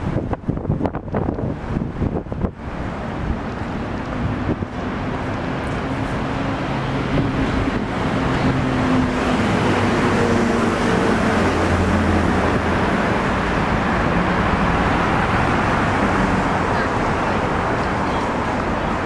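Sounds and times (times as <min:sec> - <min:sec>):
road traffic rushing past: 0:00.0 - 0:19.0.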